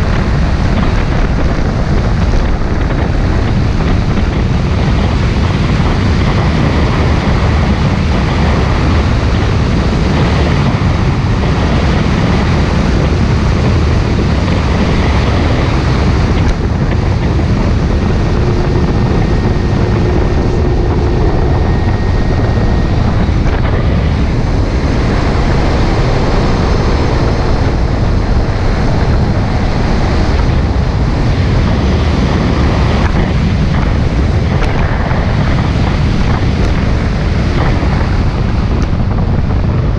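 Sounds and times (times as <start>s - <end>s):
jet ski engine: 0.0s - 39.9s
wind buffeting microphone: 0.0s - 39.9s
water rushing: 0.4s - 38.0s.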